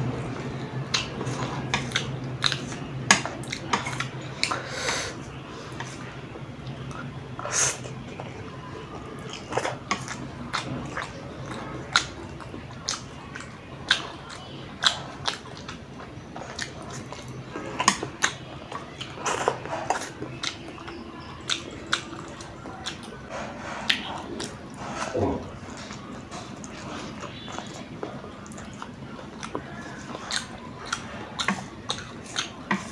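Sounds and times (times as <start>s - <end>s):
chewing with wet smacks: 0.2s - 32.9s.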